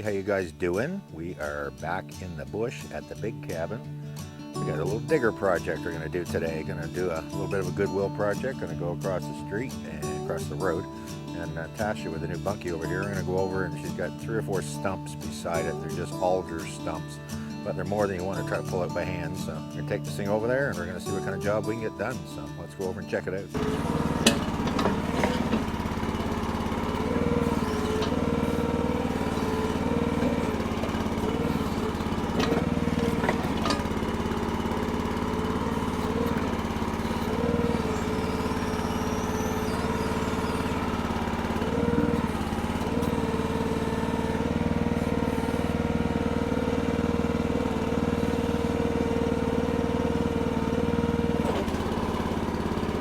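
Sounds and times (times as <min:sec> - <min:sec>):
small engine running with whine: 0:00.0 - 0:53.0.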